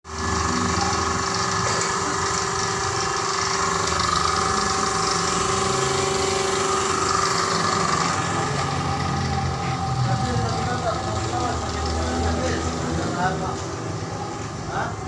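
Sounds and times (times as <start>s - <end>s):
machine whining: 0.1s - 15.0s.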